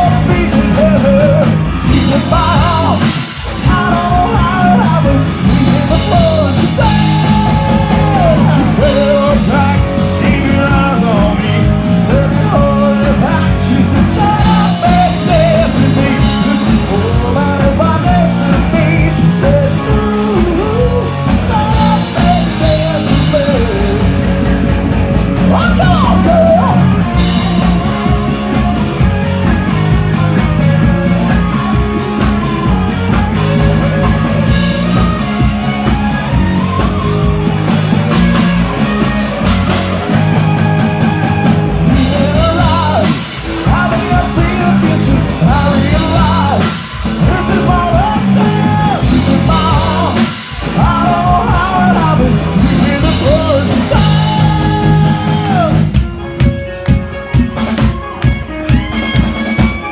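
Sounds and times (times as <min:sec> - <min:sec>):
person singing lead vocals: 0:00.0 - 0:56.1
bass guitar: 0:00.0 - 0:59.9
drum kit: 0:00.0 - 0:59.9
electric guitars: 0:00.0 - 0:59.9.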